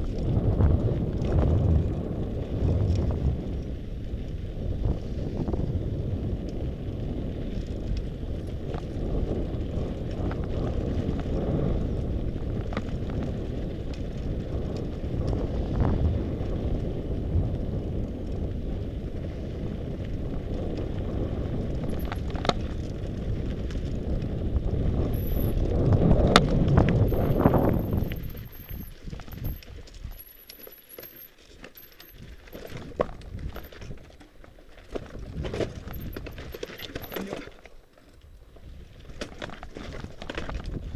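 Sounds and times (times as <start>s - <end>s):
wind on microphone: 0.0s - 30.2s, 34.9s - 37.3s, 38.4s - 40.9s
bike clicks and rattles: 0.0s - 40.9s.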